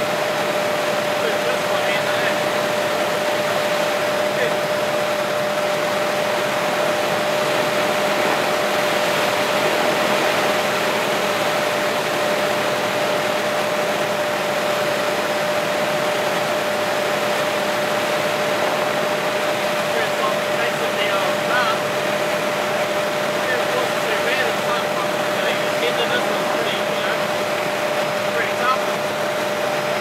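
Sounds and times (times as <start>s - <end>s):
helicopter cabin noise: 0.0s - 30.0s.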